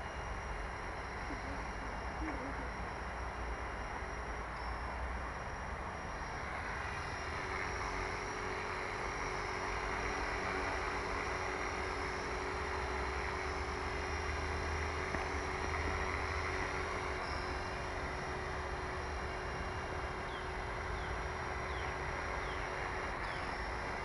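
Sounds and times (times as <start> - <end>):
machine running with constant hum: 0.0 - 24.0.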